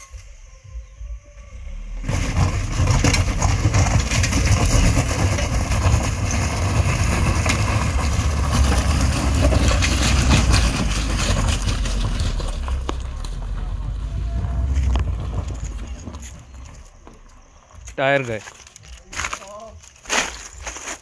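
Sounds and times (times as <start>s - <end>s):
car engine running under load: 0.8s - 17.7s
tyres crunching over gravel: 1.7s - 21.0s.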